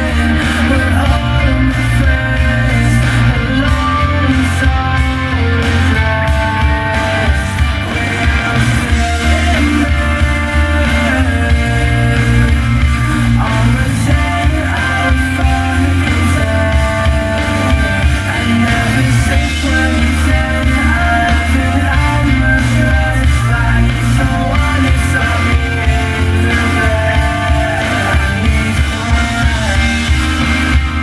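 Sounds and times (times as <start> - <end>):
loud bass-heavy rock music: 0.0 - 31.0.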